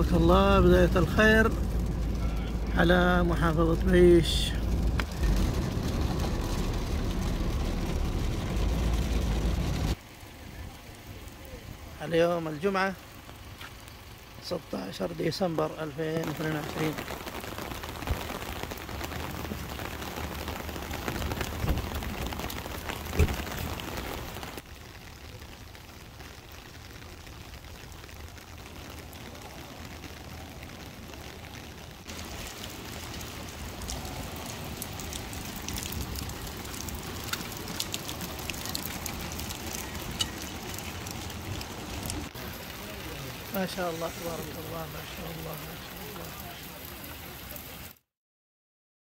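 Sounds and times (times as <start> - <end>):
rain on wet pavement: 0.0 - 48.1.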